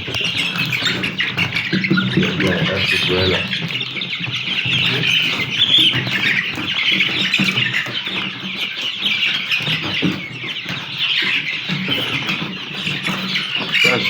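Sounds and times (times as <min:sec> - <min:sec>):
chicks peeping and chirping: 0:00.0 - 0:14.0.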